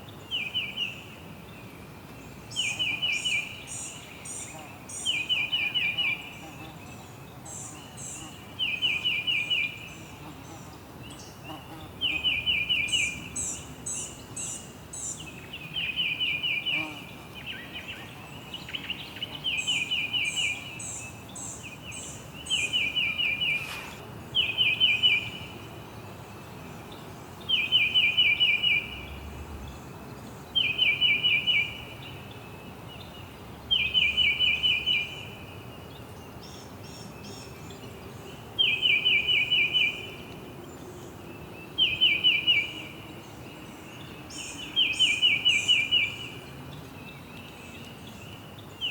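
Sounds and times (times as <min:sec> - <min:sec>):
steady background hiss: 0:00.0 - 0:48.9.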